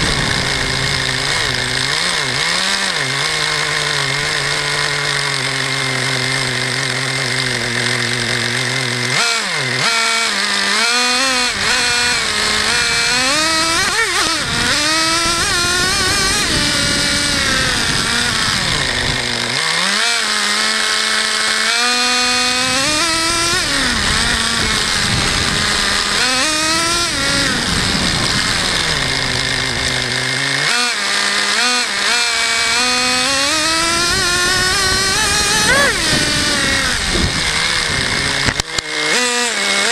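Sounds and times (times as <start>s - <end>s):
rc car engine idling and revving: 0.0s - 39.9s.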